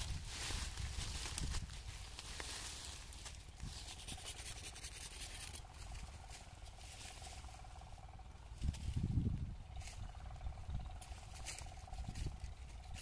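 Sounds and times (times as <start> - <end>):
branches and leaves rustling: 0.0 - 13.0
faint steady hum: 0.0 - 13.0.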